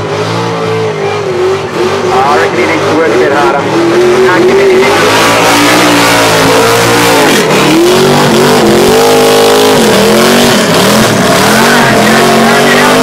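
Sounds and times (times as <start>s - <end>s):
car engine revving loud: 0.0s - 13.0s.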